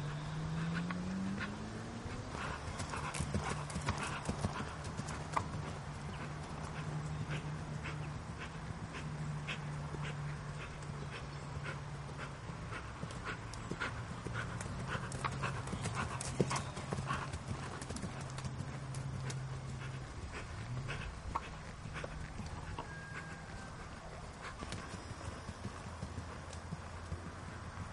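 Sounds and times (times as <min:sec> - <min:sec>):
steady low hum: 0:00.0 - 0:27.9
horse hoofbeats on grass: 0:00.1 - 0:27.9.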